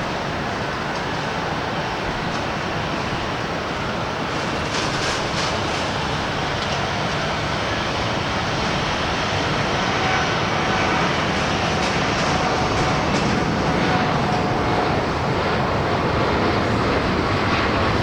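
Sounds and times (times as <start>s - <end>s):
faint engine whine: 0.0s - 18.0s
jet engines roaring: 0.0s - 18.0s
wind buffeting microphone: 0.0s - 18.0s.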